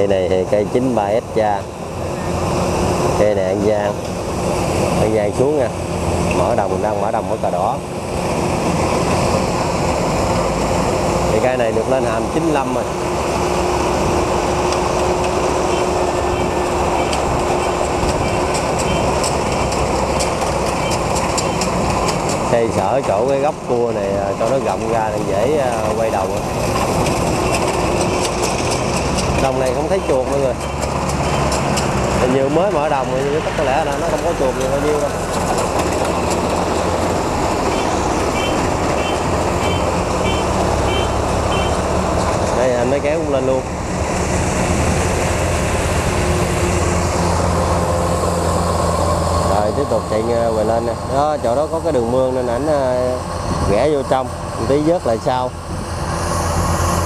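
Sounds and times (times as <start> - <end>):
combine harvester rumbling: 0.0 - 57.0.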